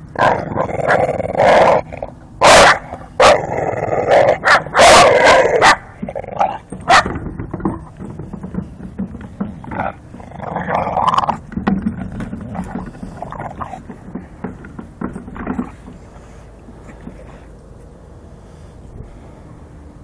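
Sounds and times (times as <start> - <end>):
dog growling and snorting: 0.1 - 17.5.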